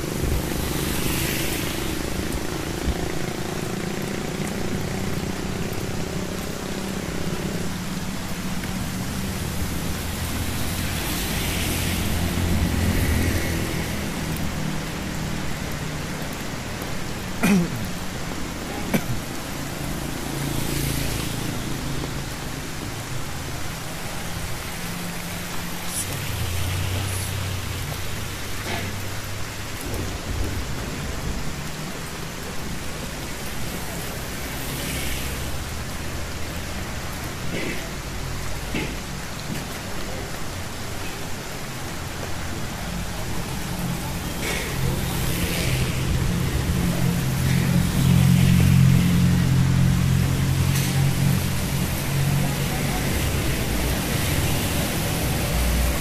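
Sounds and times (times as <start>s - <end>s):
car driving past on wet road: 0.0s - 56.0s
rain on street and umbrella: 0.0s - 56.0s
tyres hissing through water: 0.0s - 56.0s
vehicle engine hum: 0.0s - 56.0s.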